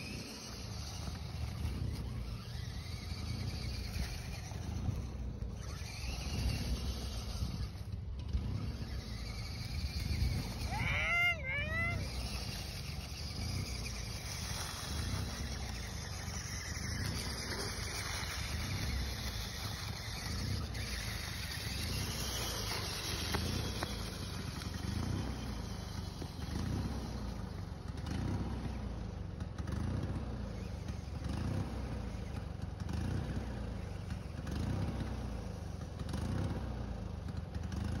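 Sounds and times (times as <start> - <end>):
toy truck motor revving: 0.0 - 38.0
wheels driving over dry leaves: 0.0 - 38.0.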